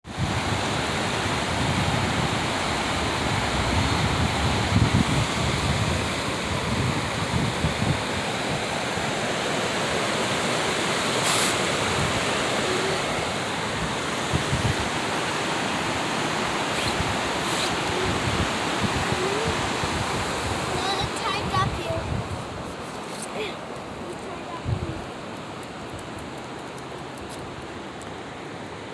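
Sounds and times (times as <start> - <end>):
wind buffeting microphone: 0.0 - 22.8, 23.7 - 25.3
flowing water rushing: 0.1 - 25.9.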